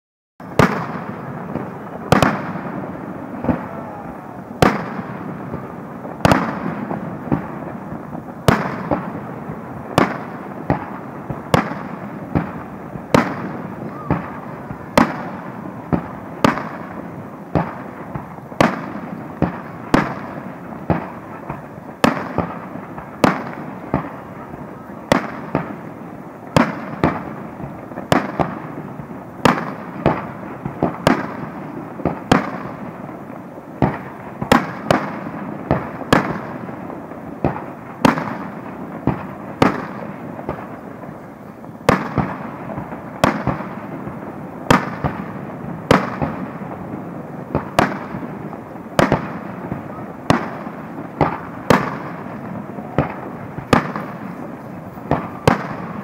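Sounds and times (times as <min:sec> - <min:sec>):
fireworks bursting with bangs: 0:00.4 - 0:56.0.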